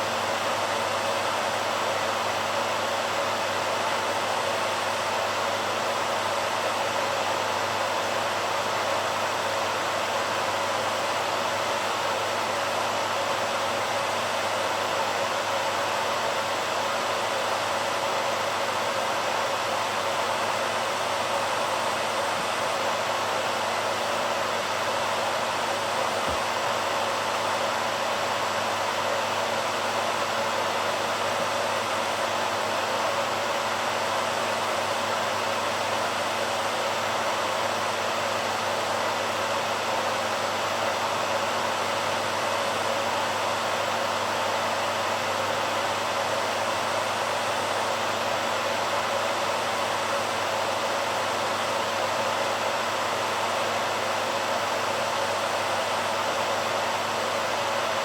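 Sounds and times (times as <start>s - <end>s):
hairdryer running: 0.0s - 58.0s.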